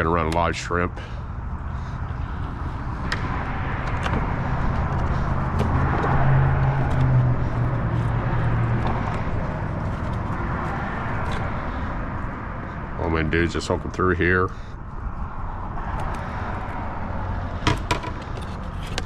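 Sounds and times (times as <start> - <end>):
rumble of traffic overhead: 0.0 - 19.0.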